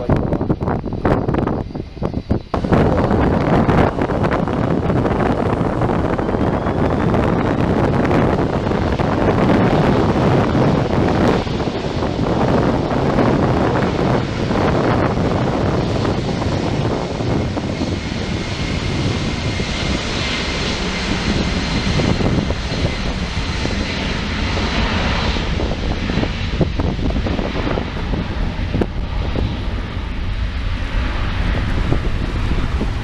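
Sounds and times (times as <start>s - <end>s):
jet engines roaring: 0.0s - 33.0s
wind buffeting microphone: 0.0s - 33.0s.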